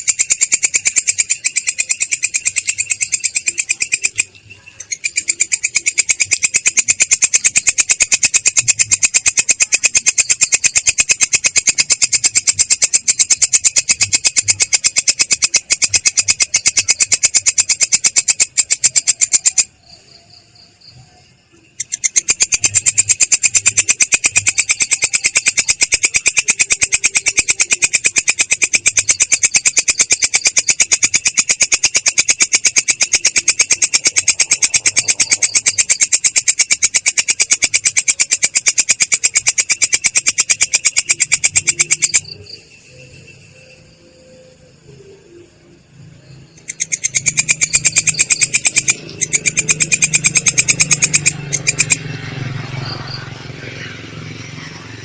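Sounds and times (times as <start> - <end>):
songbird chattering trill: 0.0 - 44.5, 46.4 - 54.8.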